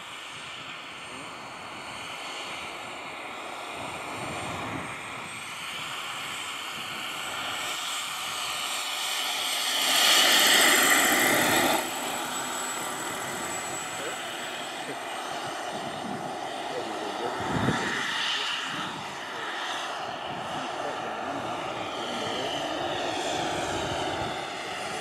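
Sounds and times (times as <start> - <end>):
model helicopter flying: 0.0 - 25.0.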